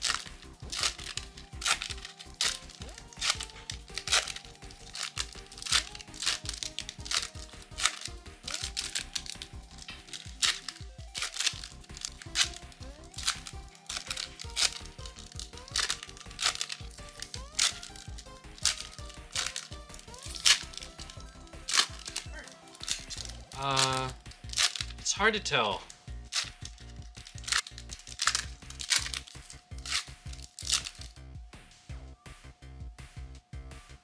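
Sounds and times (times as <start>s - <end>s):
foil wrappers crinkling and tearing: 0.0s - 25.2s, 26.4s - 31.1s
background music with steady beat: 0.0s - 34.0s.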